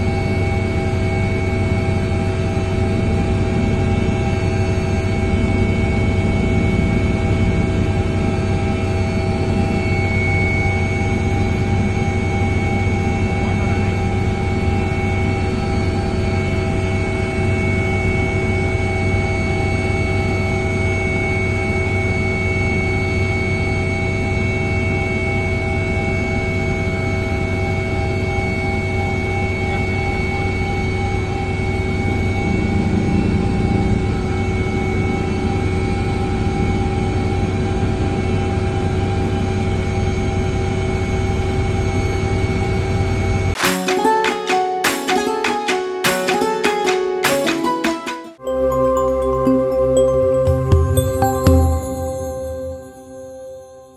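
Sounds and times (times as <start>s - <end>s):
helicopter cabin drone: 0.0s - 43.6s.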